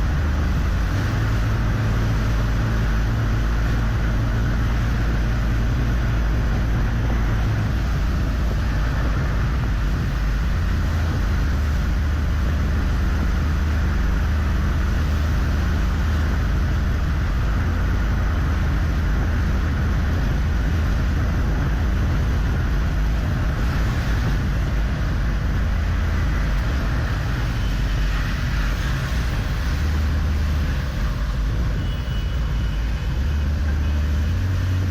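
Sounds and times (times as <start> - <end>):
vehicle road noise on highway: 0.0 - 34.9.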